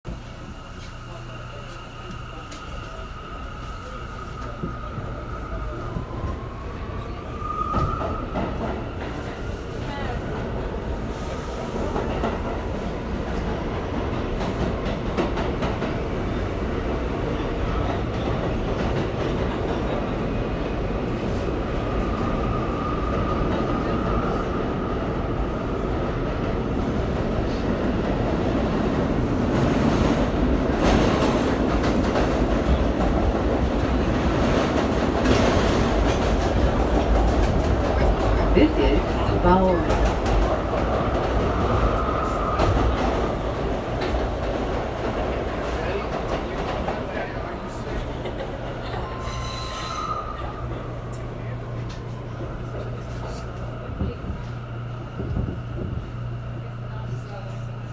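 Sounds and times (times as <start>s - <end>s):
subway car rumble: 0.0s - 57.9s.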